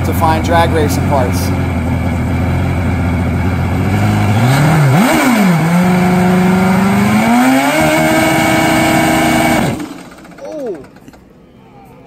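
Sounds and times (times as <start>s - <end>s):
motorcycle engine idling and revving: 0.0s - 11.5s.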